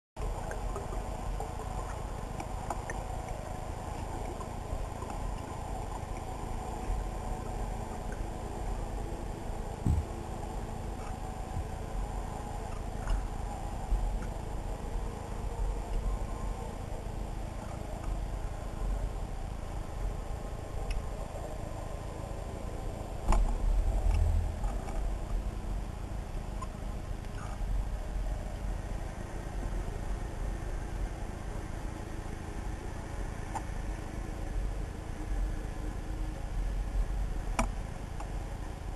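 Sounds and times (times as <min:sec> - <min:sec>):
underwater low rumble: 0:00.2 - 0:38.9.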